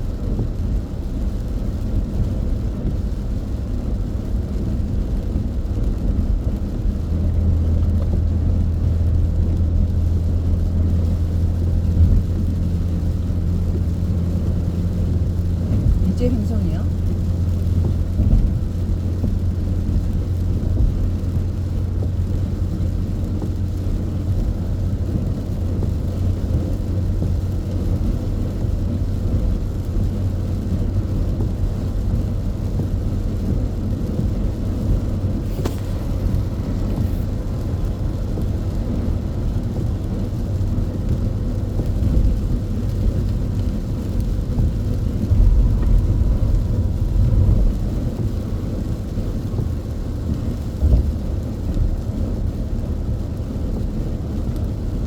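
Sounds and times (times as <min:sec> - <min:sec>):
engine and road noise in car: 0:00.0 - 0:55.0.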